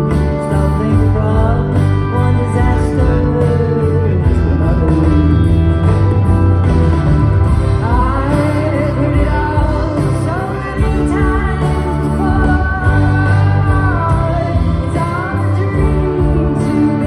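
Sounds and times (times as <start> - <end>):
person singing: 0.0 - 6.2, 7.5 - 17.0
live band playing: 0.0 - 17.0.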